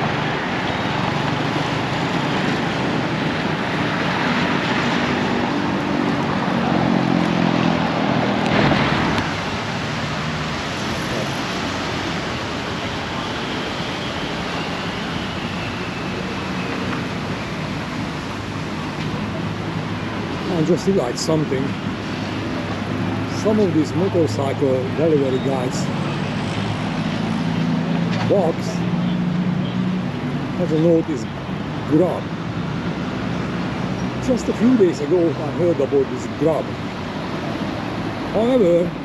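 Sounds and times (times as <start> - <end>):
cars and motorcycles passing: 0.0 - 39.0
engine hum: 0.0 - 39.0.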